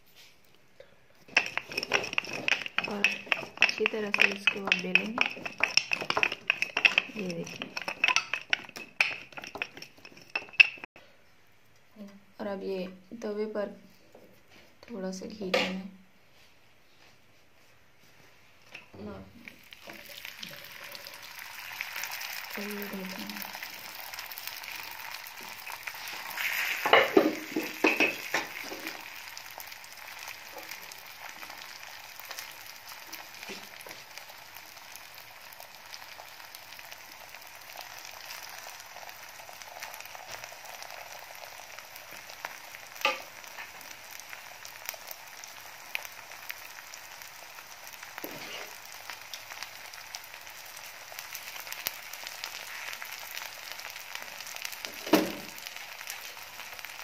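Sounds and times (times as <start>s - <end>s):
bread sizzling in a pan: 1.3s - 10.9s, 18.8s - 57.0s.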